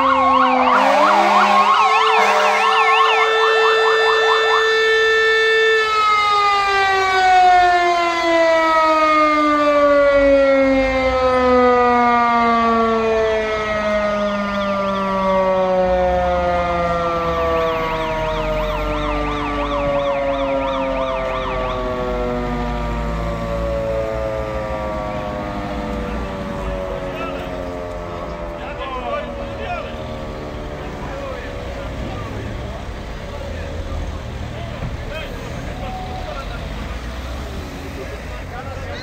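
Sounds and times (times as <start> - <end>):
electronic siren yelping: 0.0 - 32.8
motor-driven siren winding down: 0.0 - 32.9.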